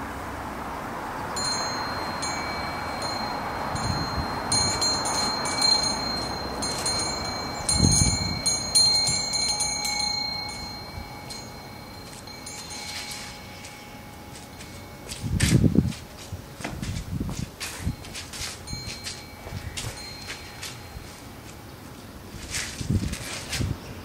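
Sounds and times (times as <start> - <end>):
steady background hiss: 0.0 - 24.0
wind chime ringing: 1.3 - 16.6, 17.5 - 21.8.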